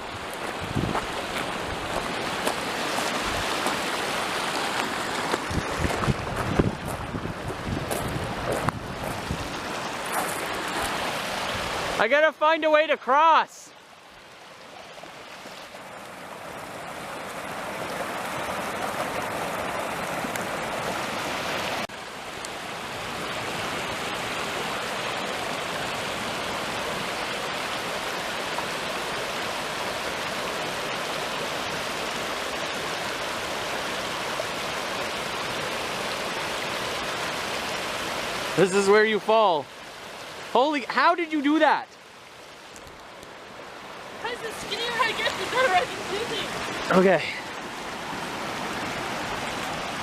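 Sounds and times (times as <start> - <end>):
rushing stream water: 0.0 - 50.0.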